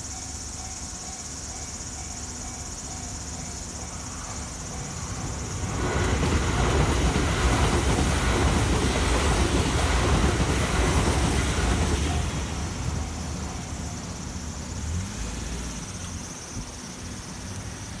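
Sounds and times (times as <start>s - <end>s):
electric train wheels rumbling on rail: 0.0s - 18.0s.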